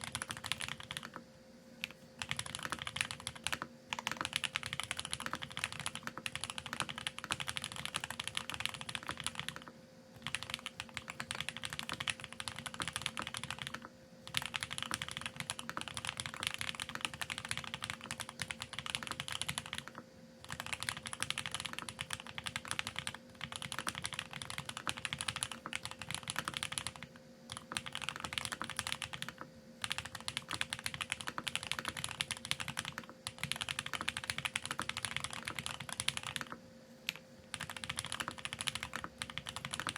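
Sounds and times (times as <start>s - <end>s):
fast typing on mechanical keyboard: 0.0s - 1.2s, 1.8s - 39.9s.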